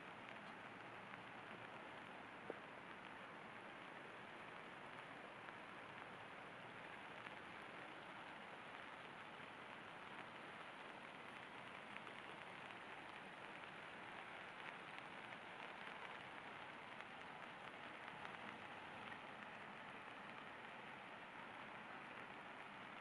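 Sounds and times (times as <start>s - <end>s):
rain falling: 0.0s - 23.0s
creek water running: 0.1s - 23.0s.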